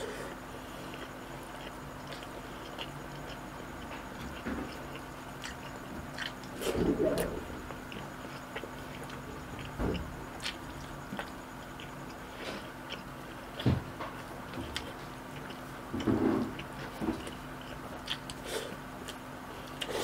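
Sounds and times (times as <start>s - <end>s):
faint hum: 0.0s - 20.0s
person chewing food: 0.0s - 20.0s.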